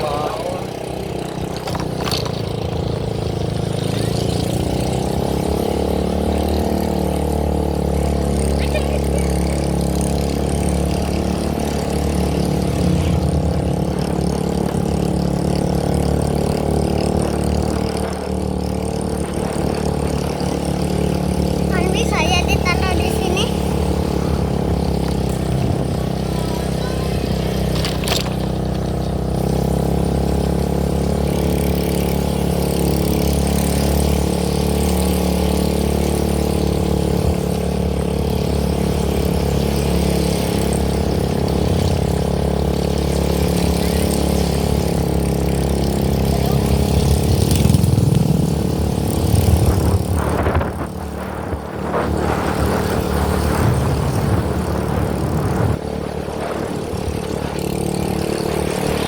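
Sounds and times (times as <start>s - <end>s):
steady motor drone: 0.0s - 59.0s.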